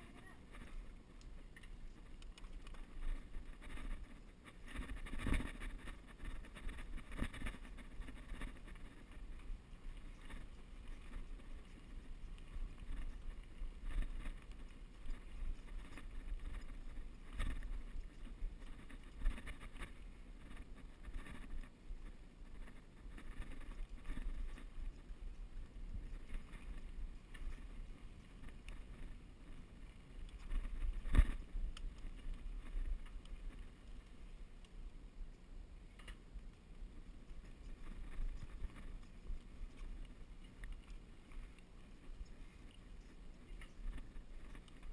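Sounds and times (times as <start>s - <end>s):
bike rolling low rumble: 0.0s - 44.9s.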